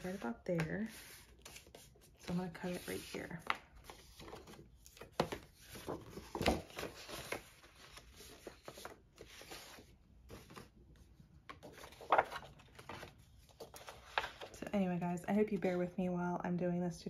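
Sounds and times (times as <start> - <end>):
paper rustling and sliding: 0.0 - 10.7, 11.5 - 14.6.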